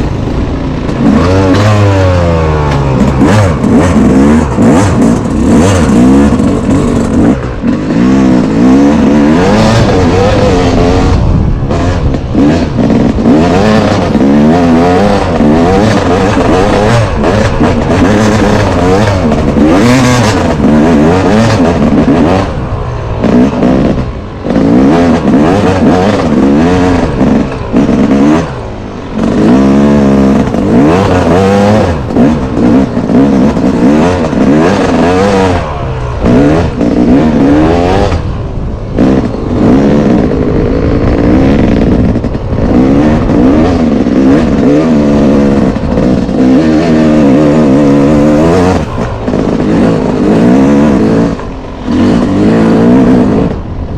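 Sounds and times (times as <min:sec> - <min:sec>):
off-road engine revving: 0:00.0 - 0:53.9.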